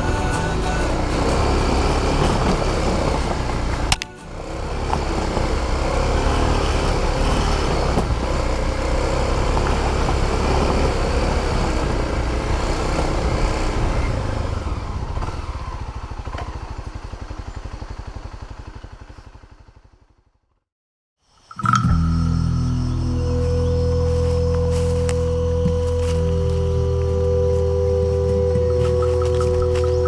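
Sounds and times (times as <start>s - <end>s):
small motorbike engine running: 0.0s - 20.5s, 21.5s - 30.0s.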